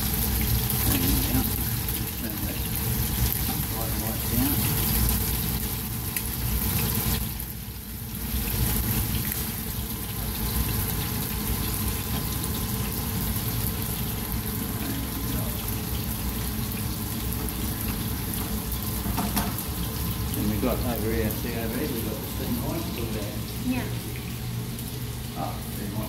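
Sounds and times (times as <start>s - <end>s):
fish frying in oil: 0.0s - 26.0s
rice sizzling in a pan: 0.0s - 26.0s.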